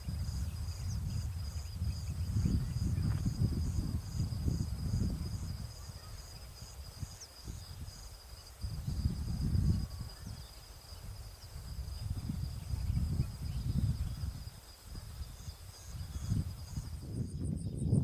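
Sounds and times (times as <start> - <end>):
insects droning: 0.0 - 18.0
pulsing insect chirp: 0.0 - 18.0
wind on microphone: 0.0 - 18.0.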